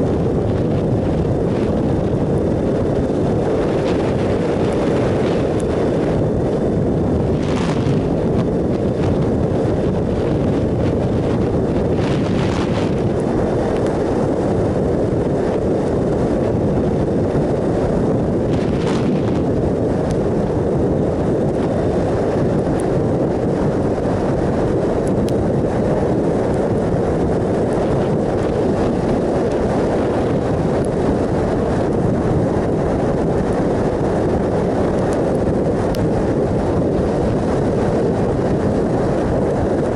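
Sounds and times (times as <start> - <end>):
motorcycle engine drone: 0.0 - 39.9
wind rush over microphone: 0.0 - 39.9.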